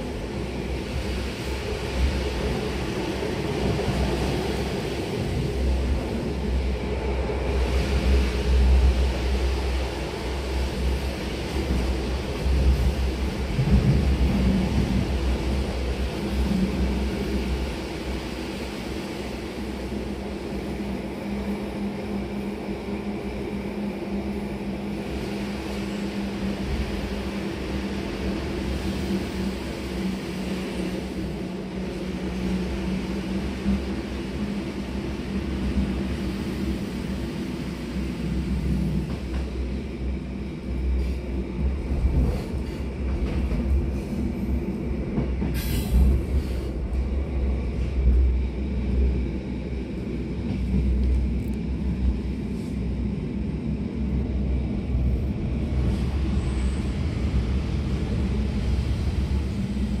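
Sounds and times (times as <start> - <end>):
electric train rumble: 0.0 - 60.0.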